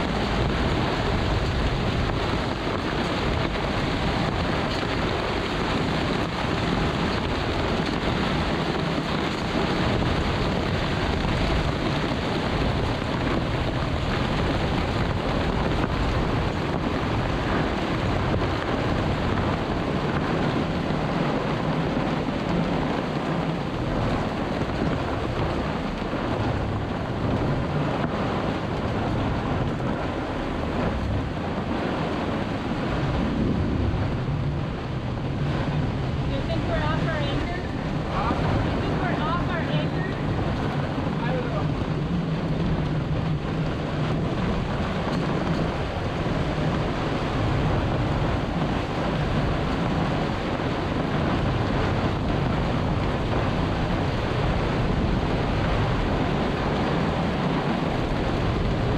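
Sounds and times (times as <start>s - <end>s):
rain: 0.0s - 58.9s
rough sea: 0.0s - 58.9s
storm wind on microphone: 0.0s - 58.9s.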